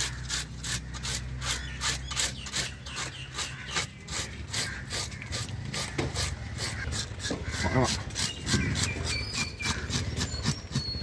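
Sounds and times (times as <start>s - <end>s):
knife scraping fish scales: 0.0s - 11.0s.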